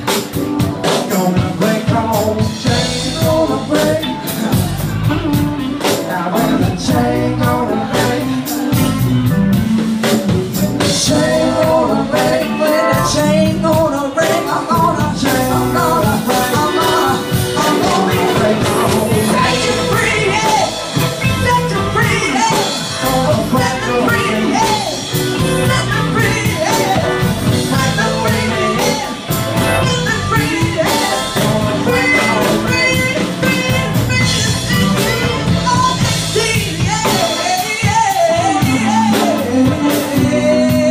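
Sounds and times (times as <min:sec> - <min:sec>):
bass guitar: 0:00.0 - 0:40.9
drum kit: 0:00.0 - 0:40.9
electric guitar: 0:00.0 - 0:40.9
woman singing: 0:00.1 - 0:09.0, 0:09.8 - 0:40.9.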